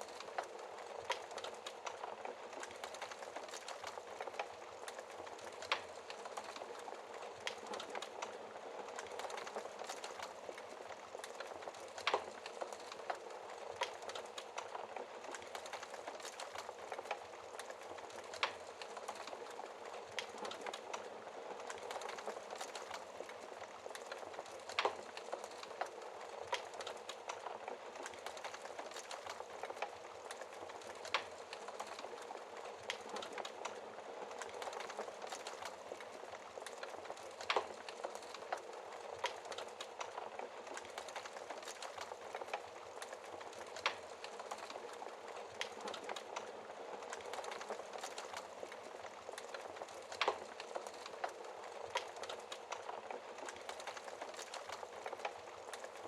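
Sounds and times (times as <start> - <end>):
fire popping: 0.0 - 56.0
wood fire crackling: 0.0 - 56.0.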